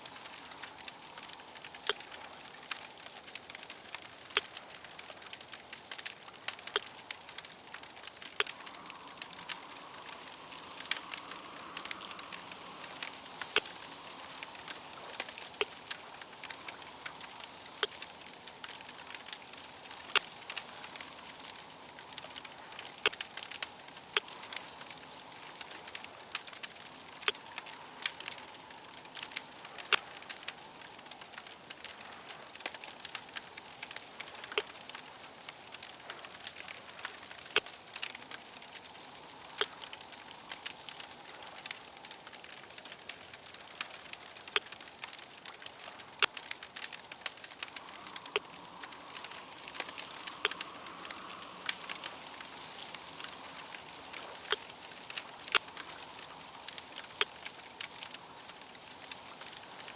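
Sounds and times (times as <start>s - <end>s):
steady hiss: 0.0s - 59.9s
wood fire crackling: 0.0s - 59.9s.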